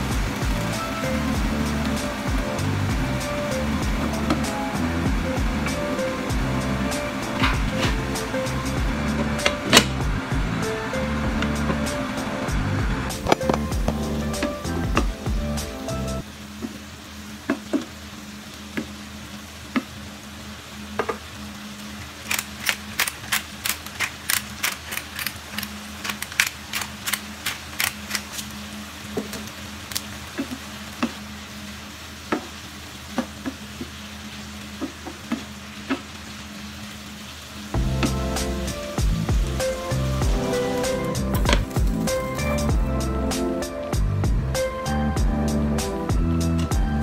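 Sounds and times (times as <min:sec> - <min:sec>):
meat and vegetables sizzling in pan: 0:00.0 - 0:19.4, 0:20.3 - 0:43.0.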